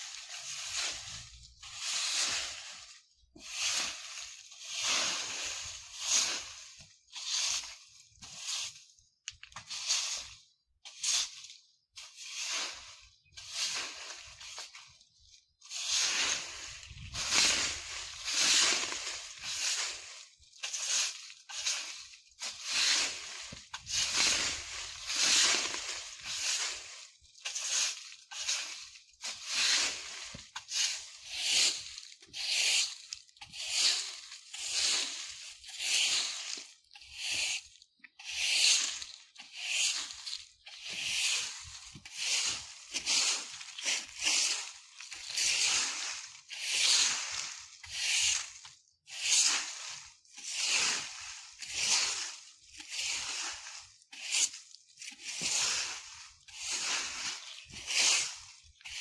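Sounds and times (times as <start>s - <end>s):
broom sweeping dry leaves: 0.0s - 59.0s.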